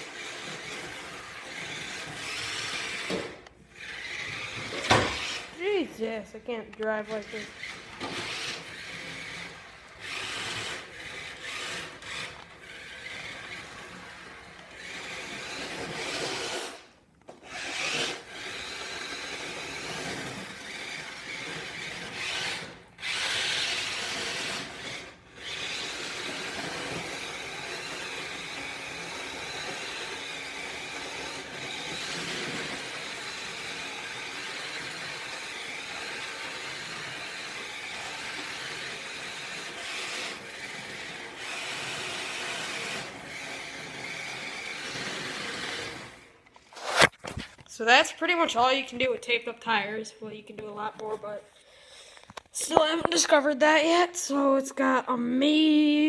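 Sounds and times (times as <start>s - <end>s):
toy car motor and gears whirring: 0.0s - 49.0s.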